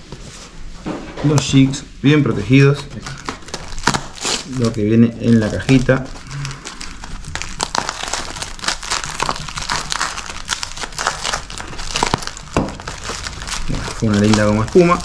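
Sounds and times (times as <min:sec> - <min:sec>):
paper crinkling: 0:02.4 - 0:15.0.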